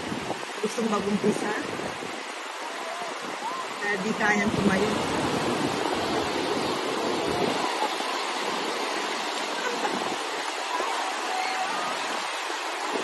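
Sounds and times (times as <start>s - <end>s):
waves breaking on a beach: 0.0s - 13.0s.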